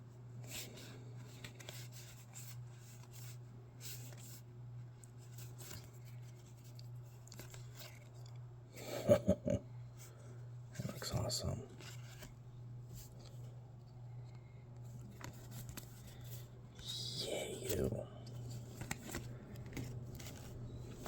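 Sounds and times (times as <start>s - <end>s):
low steady hum: 0.0s - 21.0s
cards rustling and scraping: 0.4s - 8.4s, 10.8s - 21.0s.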